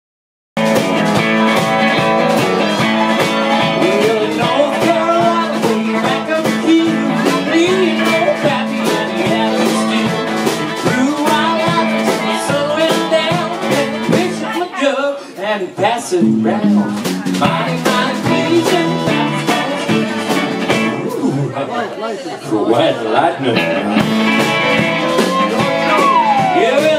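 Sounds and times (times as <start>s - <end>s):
country band playing: 0.6s - 26.9s
man singing: 1.1s - 21.5s, 25.0s - 26.9s.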